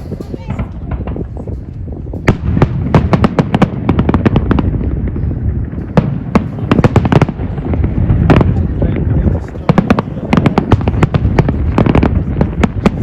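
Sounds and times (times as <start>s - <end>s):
fireworks crackling bangs: 0.0s - 13.0s
steady low rumble: 0.0s - 13.0s.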